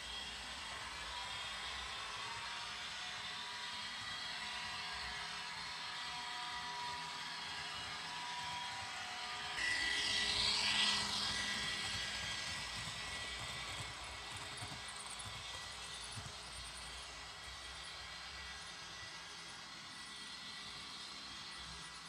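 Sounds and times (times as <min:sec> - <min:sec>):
model train running past: 0:00.0 - 0:22.0.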